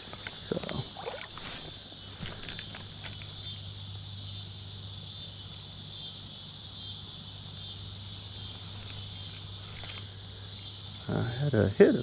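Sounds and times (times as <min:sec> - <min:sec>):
crickets and insects trilling: 0:00.0 - 0:12.0.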